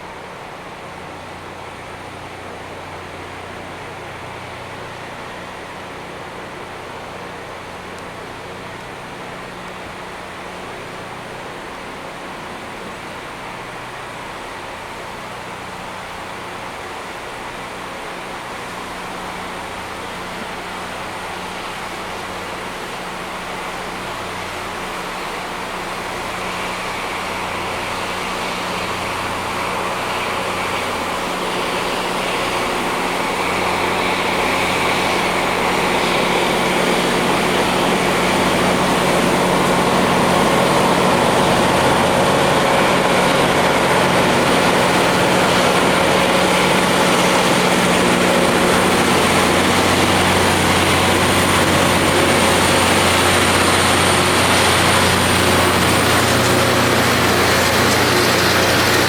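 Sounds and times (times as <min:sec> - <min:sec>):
rail grinder grinding hiss: 0:00.9 - 0:59.0.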